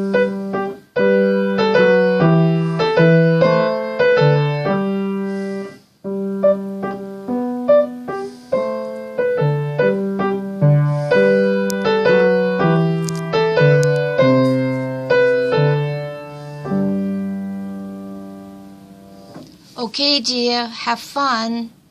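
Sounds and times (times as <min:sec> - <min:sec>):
piano melody with bass notes: 0:00.0 - 0:19.7.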